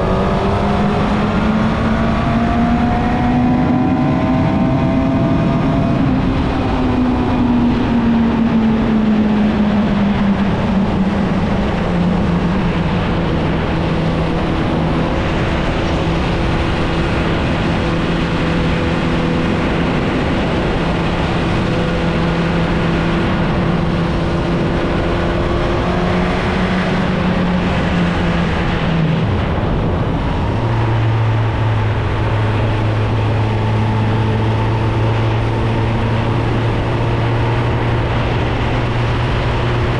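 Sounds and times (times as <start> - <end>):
motorcycle engine cruising: 0.0 - 39.9
steady rushing noise: 0.0 - 39.9.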